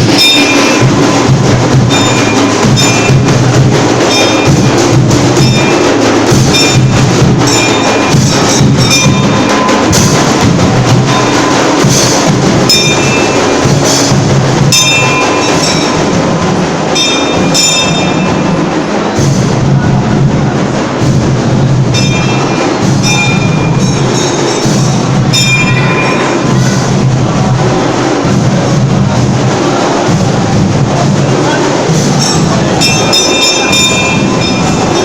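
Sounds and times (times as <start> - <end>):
ringing high-pitched strikes: 0.0 - 20.3, 21.0 - 35.0
loud drumming: 0.0 - 35.0.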